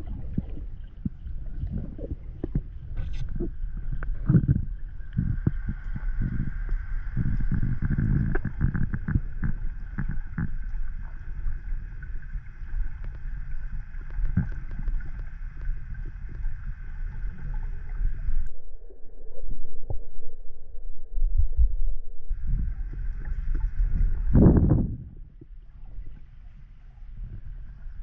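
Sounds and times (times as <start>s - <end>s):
faint steady whine: 0.0s - 28.0s
muffled underwater rumble: 0.0s - 28.0s.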